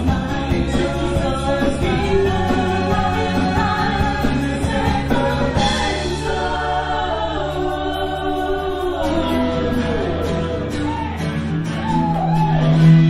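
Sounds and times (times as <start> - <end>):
two women singing: 0.0 - 11.2
live band playing: 0.0 - 13.0.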